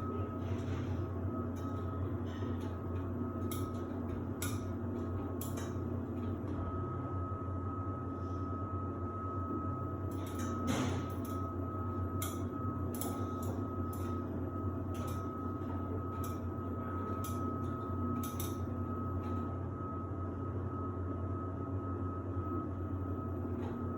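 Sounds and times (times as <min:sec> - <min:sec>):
dryer motor and fan hum: 0:00.0 - 0:23.9
thin steady whine: 0:00.0 - 0:23.9.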